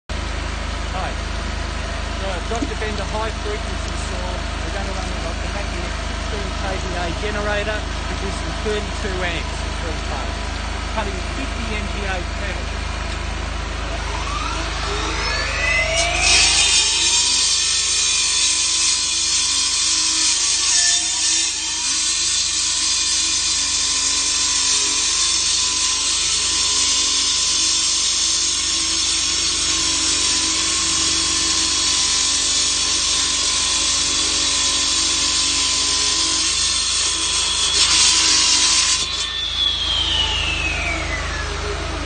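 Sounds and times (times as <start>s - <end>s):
electric saw whining: 0.6s - 42.0s
saw grinding through concrete: 2.0s - 12.8s, 13.7s - 42.0s.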